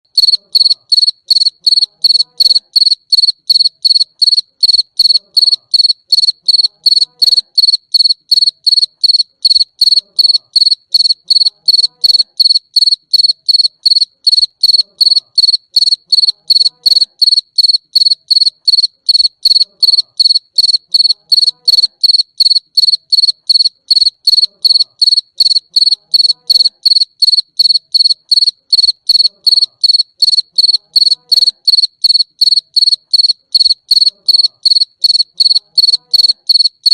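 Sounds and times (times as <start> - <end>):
cricket chirping: 0.1 - 36.9.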